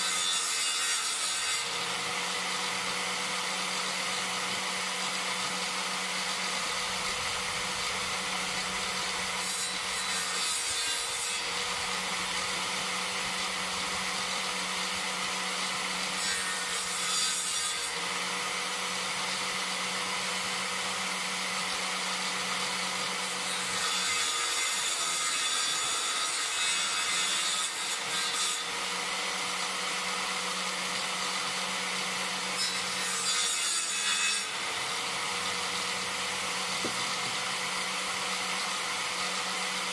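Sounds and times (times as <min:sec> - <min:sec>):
circular saw running: 0:00.0 - 0:39.9
saw blade cutting wood: 0:00.0 - 0:39.9.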